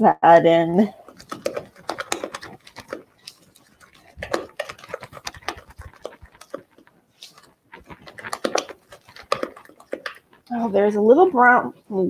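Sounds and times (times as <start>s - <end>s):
spoon scraping mixing bowl: 0.9s - 11.9s.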